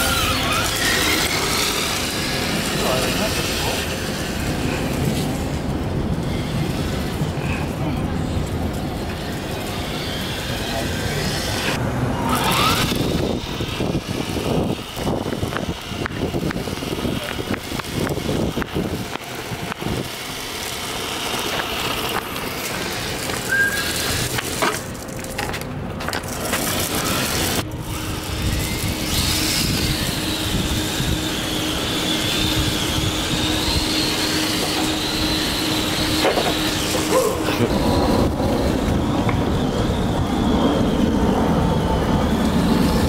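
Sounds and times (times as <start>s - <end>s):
toy car electric motor whining: 0.0s - 25.6s, 26.2s - 43.0s.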